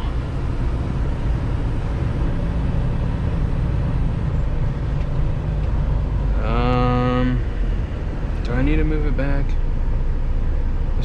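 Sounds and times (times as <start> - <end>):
truck engine rumble: 0.0 - 11.0.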